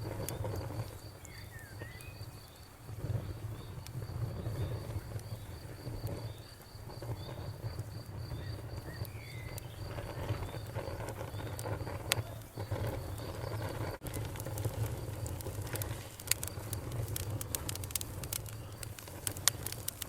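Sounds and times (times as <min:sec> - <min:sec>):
bonfire rumbling: 0:00.0 - 0:20.0
crickets chirping: 0:00.0 - 0:20.0
fire crackling: 0:00.0 - 0:20.0.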